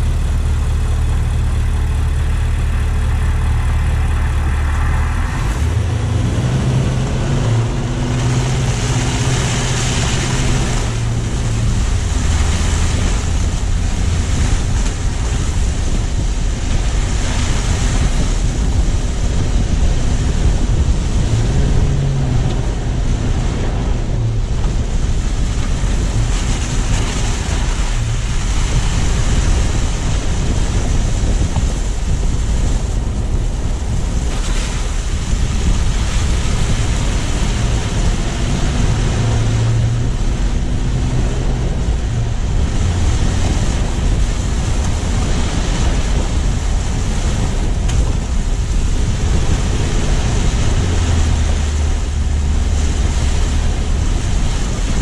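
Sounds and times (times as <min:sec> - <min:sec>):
car engine: 0:00.0 - 0:55.0
tyre and wind noise: 0:00.0 - 0:55.0.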